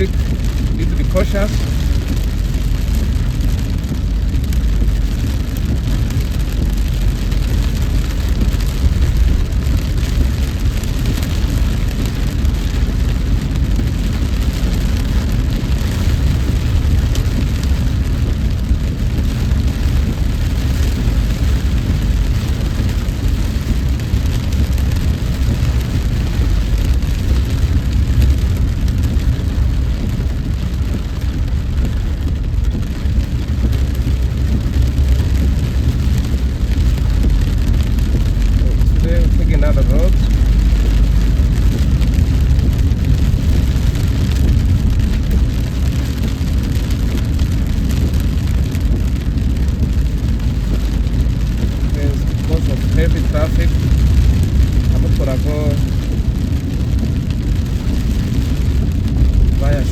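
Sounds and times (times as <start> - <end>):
car road and engine rumble: 0.0 - 59.9
rain hiss: 0.0 - 59.9.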